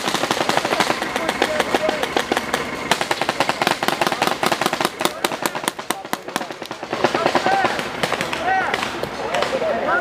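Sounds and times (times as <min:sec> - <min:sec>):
paintball markers firing rapidly: 0:00.0 - 0:09.7.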